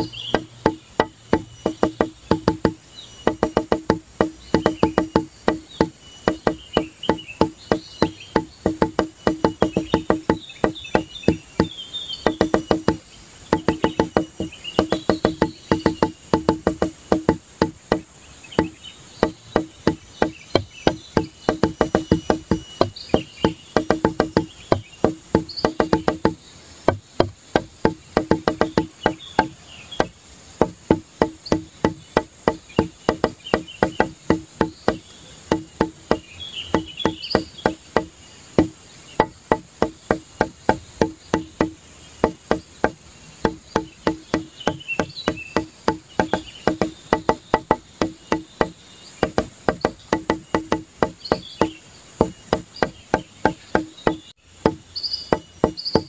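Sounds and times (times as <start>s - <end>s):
rapid repeated knocking music: 0.0s - 56.0s.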